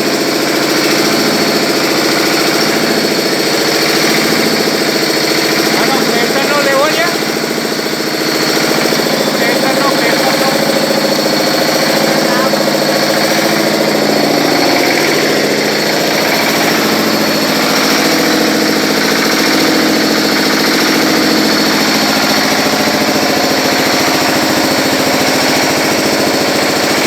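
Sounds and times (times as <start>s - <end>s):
diesel engine knocking: 0.0s - 27.0s.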